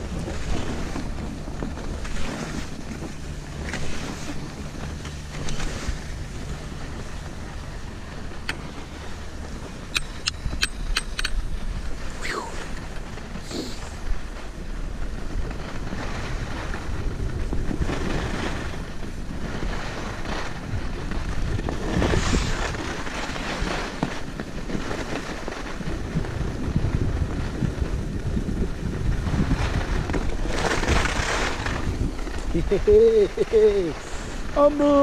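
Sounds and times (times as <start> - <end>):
skis hissing over snow: 0.0 - 9.6, 11.8 - 35.0
wind rushing over microphone: 0.0 - 35.0.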